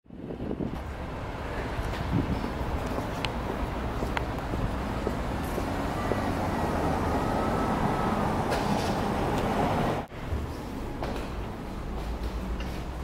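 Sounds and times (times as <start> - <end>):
rumble of passing vehicles: 0.1 - 13.0.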